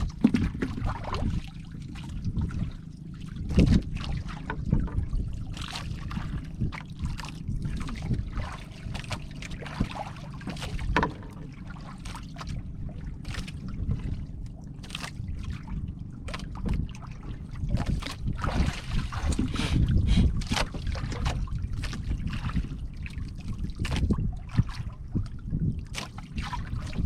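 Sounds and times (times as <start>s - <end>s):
water lapping against boat hull: 0.0s - 27.0s
wind buffeting microphone: 0.0s - 27.0s.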